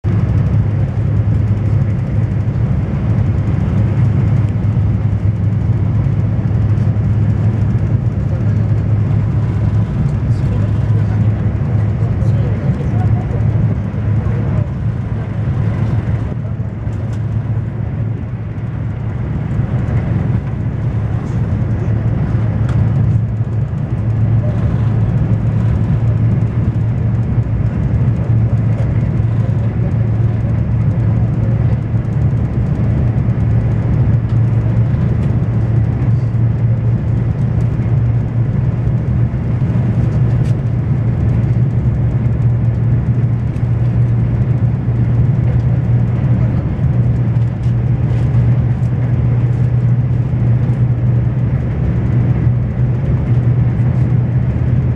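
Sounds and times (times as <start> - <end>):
deep train cabin hum: 0.0 - 54.9.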